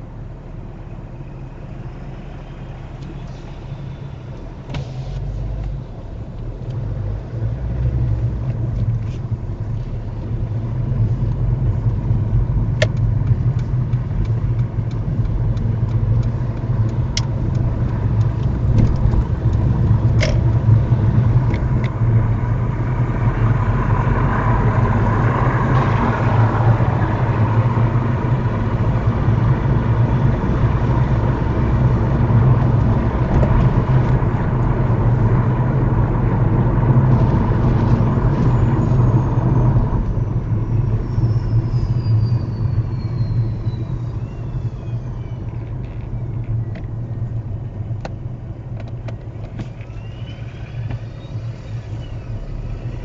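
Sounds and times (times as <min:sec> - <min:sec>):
car engine from inside cabin: 0:00.0 - 0:53.0
tyre road noise: 0:00.0 - 0:53.0.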